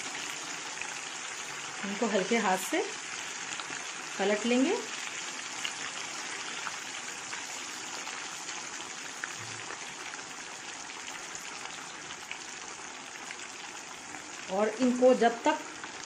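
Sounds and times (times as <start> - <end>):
oil sizzling and bubbling: 0.0 - 16.0.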